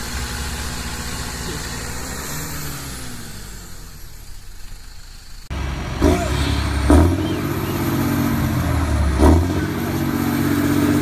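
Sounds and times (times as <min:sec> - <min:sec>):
tractor diesel engines under load: 0:00.0 - 0:11.0.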